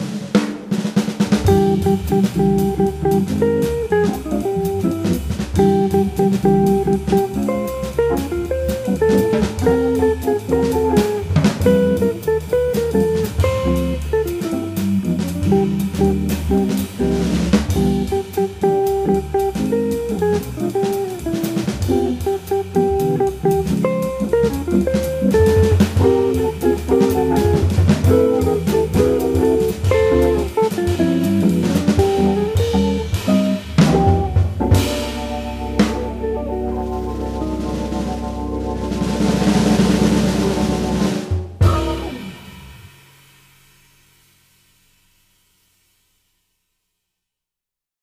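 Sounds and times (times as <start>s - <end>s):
drum kit with cymbals: 0.0s - 46.2s
organ bass: 1.3s - 42.8s
jazz guitar single-note lines: 1.4s - 42.8s.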